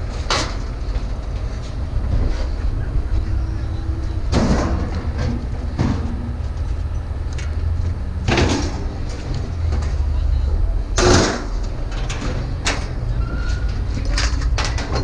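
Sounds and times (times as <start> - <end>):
scrap scraping and rattling: 0.0 - 2.8, 4.3 - 10.0, 11.0 - 15.0
low rumble: 0.0 - 15.0.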